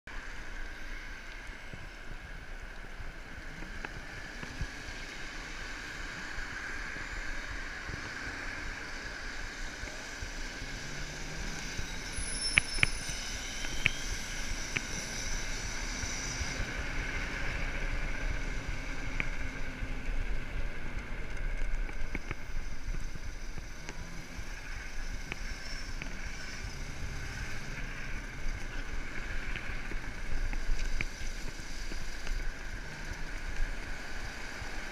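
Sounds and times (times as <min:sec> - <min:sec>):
passing traffic: 0:00.1 - 0:34.9
tyre hiss on wet road: 0:00.1 - 0:34.9.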